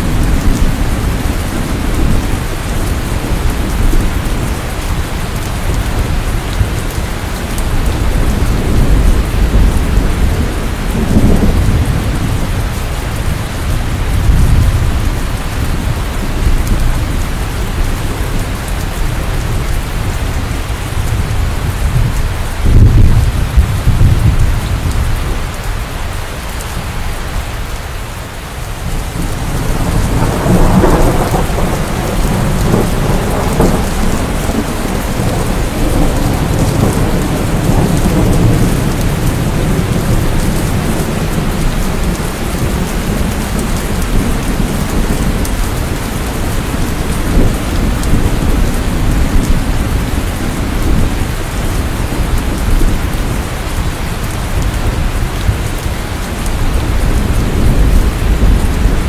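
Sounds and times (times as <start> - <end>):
rolling thunder: 0.0 - 25.8, 28.7 - 59.0
steady rain: 0.0 - 59.0.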